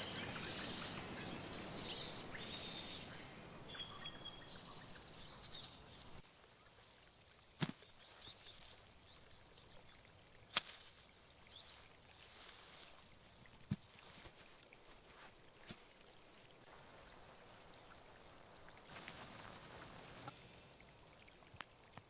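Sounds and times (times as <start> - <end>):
faint outdoor ambience: 0.0 - 22.0.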